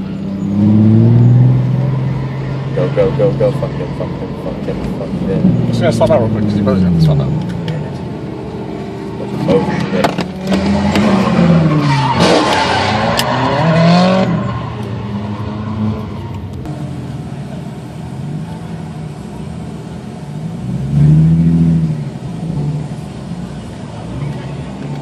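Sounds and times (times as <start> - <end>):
sports car engine revving: 0.2 - 25.0.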